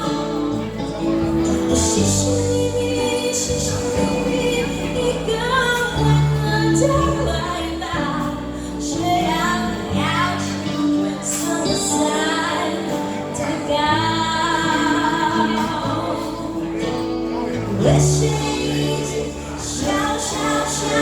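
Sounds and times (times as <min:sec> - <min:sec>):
bass guitar: 0:00.0 - 0:21.0
drums: 0:00.0 - 0:21.0
electric guitars: 0:00.0 - 0:21.0
woman singing: 0:00.0 - 0:21.0.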